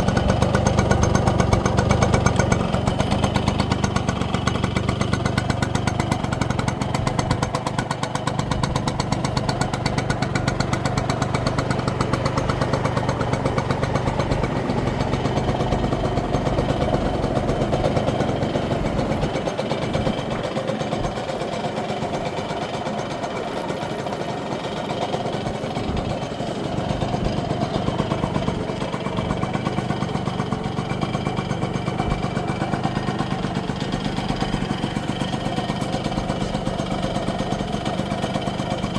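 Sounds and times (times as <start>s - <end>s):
two-stroke motorcycle engine idling: 0.0s - 38.9s.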